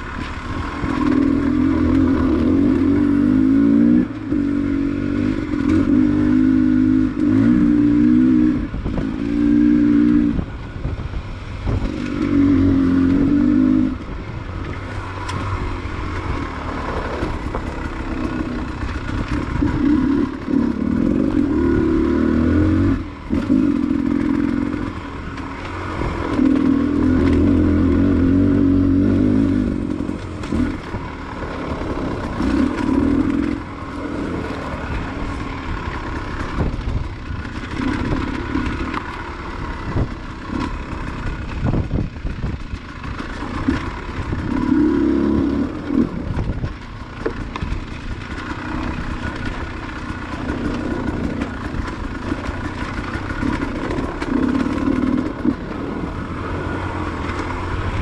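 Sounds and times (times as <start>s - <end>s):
dirt bike engine revving: 0.0s - 10.6s, 11.6s - 58.0s.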